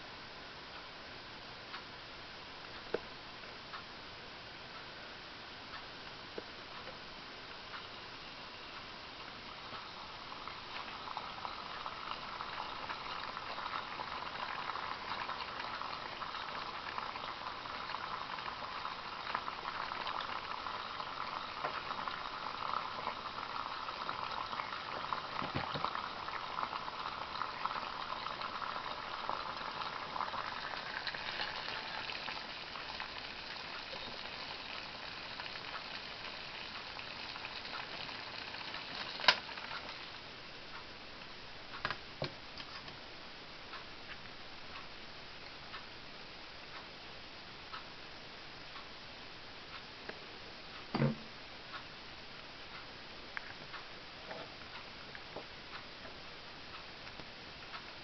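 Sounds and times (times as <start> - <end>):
water boiling with bubbling hiss: 0.0 - 49.3.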